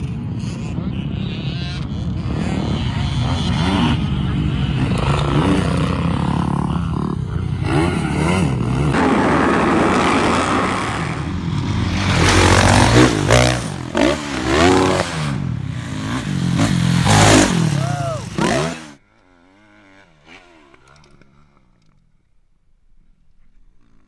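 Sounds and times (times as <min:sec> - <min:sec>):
dirt bike engine revving: 0:00.0 - 0:21.8.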